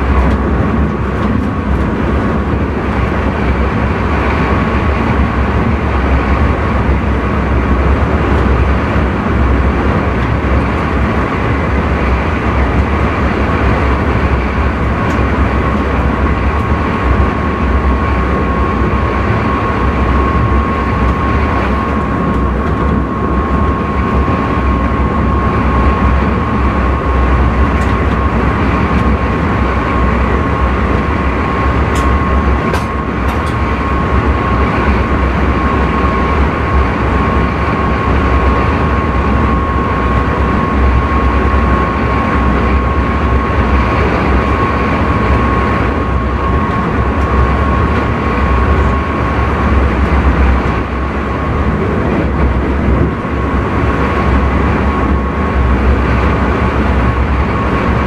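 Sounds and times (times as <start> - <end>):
train rumble and rush: 0.0 - 58.0.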